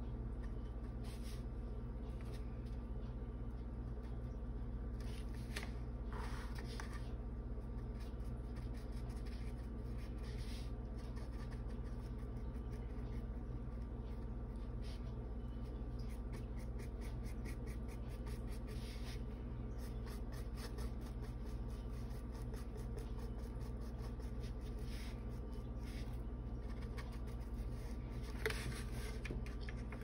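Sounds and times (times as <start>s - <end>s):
steady low hum: 0.0s - 30.0s
paintbrush scratchy strokes: 0.8s - 1.5s, 6.1s - 30.0s.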